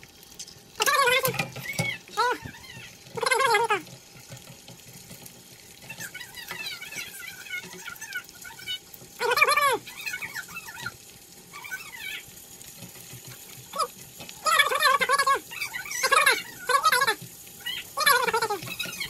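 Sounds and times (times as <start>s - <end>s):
eggs frying in pan: 0.0s - 19.0s.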